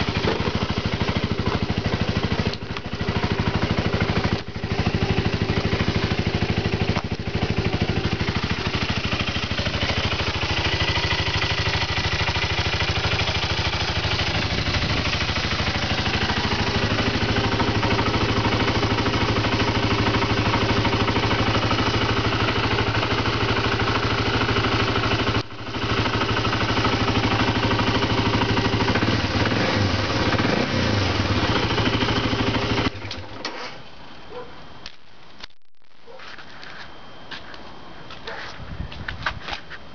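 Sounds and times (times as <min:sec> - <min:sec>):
motorcycle engine idling: 0:00.0 - 0:34.5.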